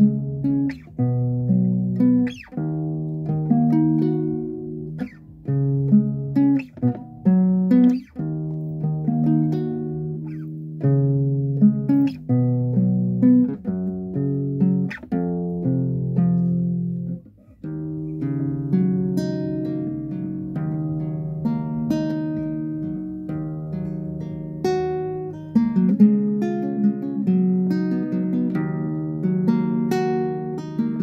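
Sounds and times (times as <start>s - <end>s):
fingerpicked guitar: 0.0s - 31.0s.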